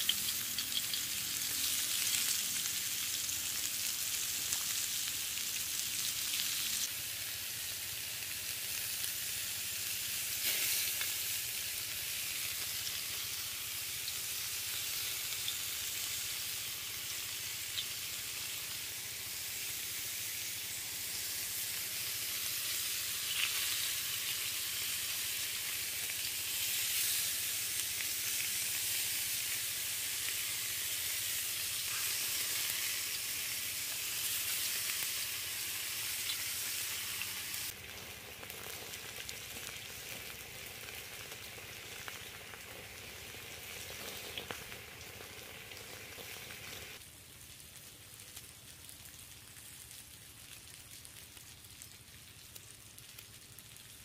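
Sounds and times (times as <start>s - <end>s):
skewers sizzling on grill pan: 0.0s - 47.0s.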